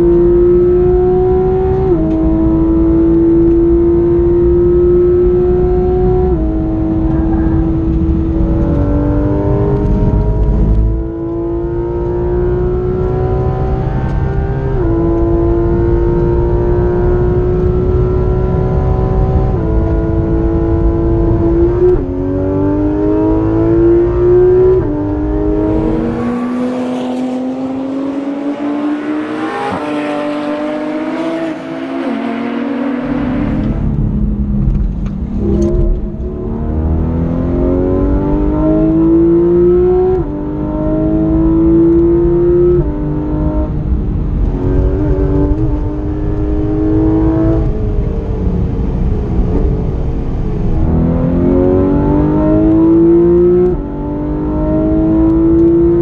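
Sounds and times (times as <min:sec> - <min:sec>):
car engine revving with gear shifts: 0:00.0 - 0:56.0.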